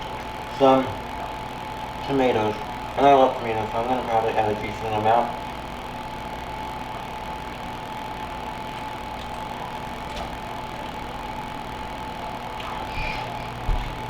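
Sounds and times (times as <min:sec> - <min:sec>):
faint whine: 0:00.0 - 0:14.0
mechanical hum: 0:00.0 - 0:14.0.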